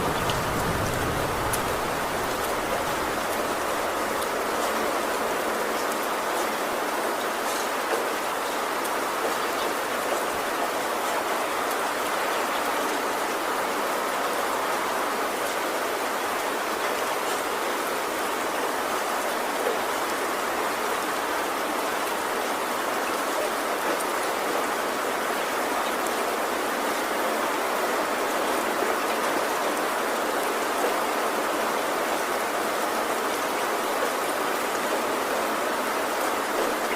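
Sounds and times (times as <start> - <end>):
heavy rain on a tin roof: 0.0 - 36.9.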